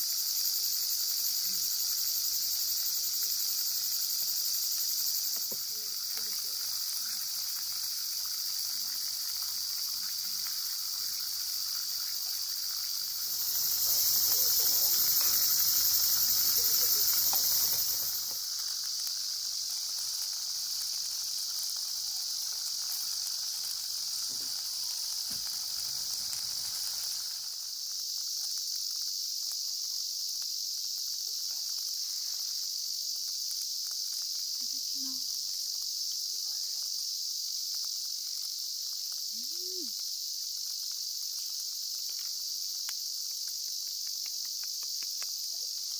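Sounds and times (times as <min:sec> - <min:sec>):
insects shrilling: 0:00.0 - 0:45.9.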